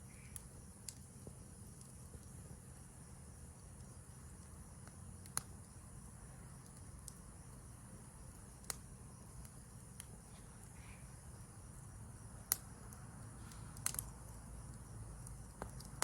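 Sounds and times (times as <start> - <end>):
campfire crackling: 0.0 - 16.0
crickets chirping: 0.0 - 16.0
sharp pops of fire: 0.0 - 16.0.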